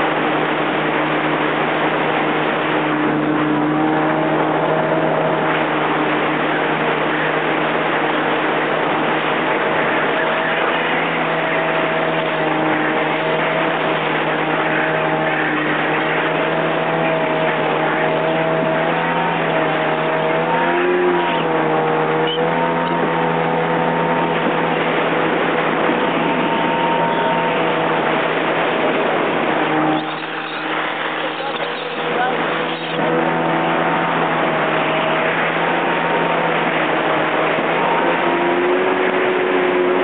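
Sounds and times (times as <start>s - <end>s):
jet ski engine running: 0.0s - 40.0s
rush of wind and water: 0.0s - 40.0s.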